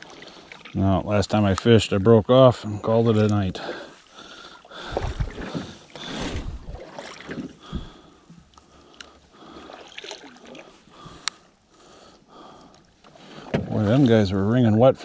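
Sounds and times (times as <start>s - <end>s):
paddle swishing through water: 0.0s - 0.8s, 2.9s - 15.0s.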